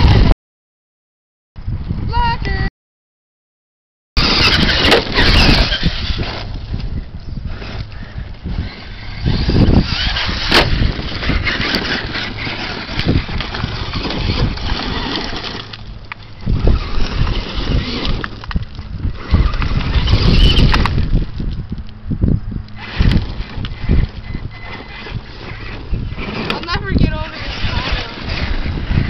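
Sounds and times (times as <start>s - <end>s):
tyres scrabbling on gravel: 4.2s - 22.0s, 22.7s - 29.0s
electric motors whining: 4.2s - 29.0s.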